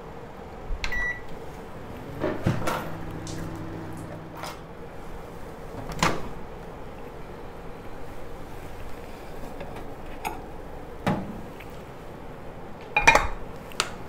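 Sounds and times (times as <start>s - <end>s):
microwave low hum: 0.0s - 14.0s.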